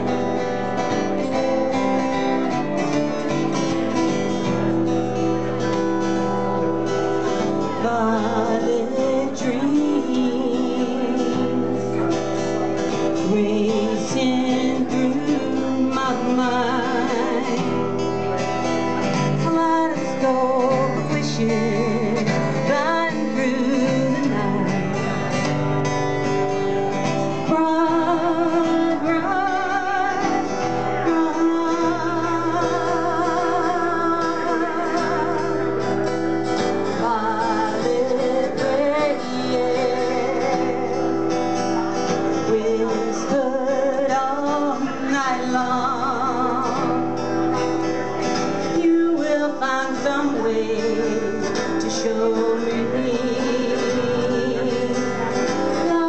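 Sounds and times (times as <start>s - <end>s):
acoustic guitar: 0.0s - 56.0s
woman singing: 6.2s - 25.7s, 26.5s - 56.0s.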